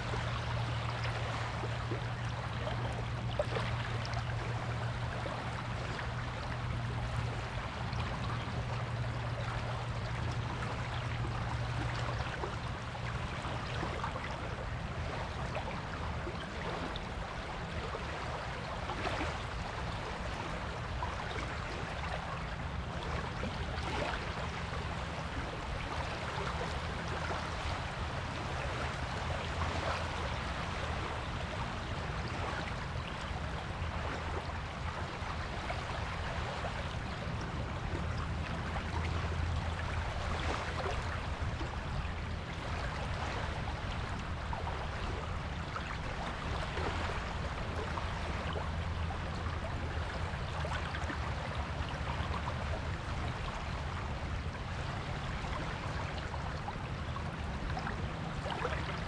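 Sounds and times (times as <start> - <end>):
ocean waves washing on beach: 0.0 - 59.0.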